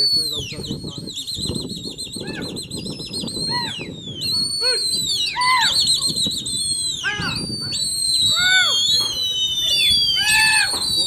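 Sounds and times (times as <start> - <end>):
downward swooping whistles: 0.0 - 11.0
trilled whistle: 0.0 - 11.0.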